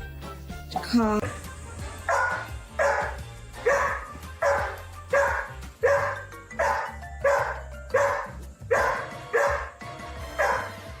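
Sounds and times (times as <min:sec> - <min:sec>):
background music: 0:00.0 - 0:11.0
dog barking: 0:02.0 - 0:11.0.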